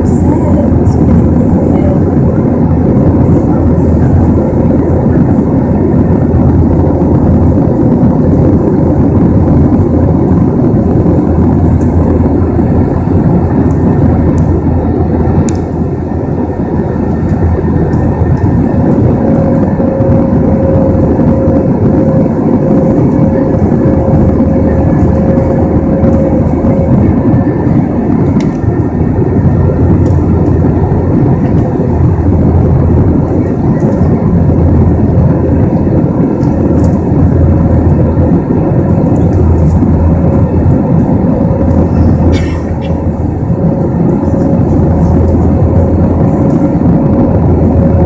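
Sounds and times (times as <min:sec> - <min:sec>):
jet engines roaring: 0:00.0 - 0:48.0
rushing air: 0:00.0 - 0:48.0
steady hum: 0:00.0 - 0:48.0.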